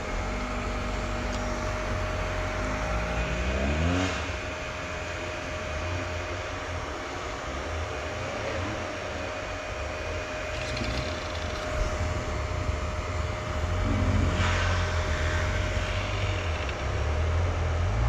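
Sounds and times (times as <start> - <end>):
dirt bike engine rumble: 0.0 - 18.0.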